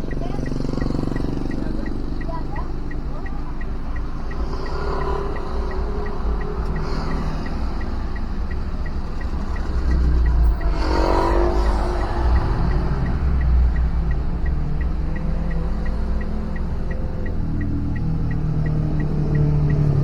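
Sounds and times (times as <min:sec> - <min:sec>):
faint ticking: 0:00.0 - 0:20.0
road traffic rumble: 0:00.0 - 0:20.0
vehicle passing: 0:00.0 - 0:20.0.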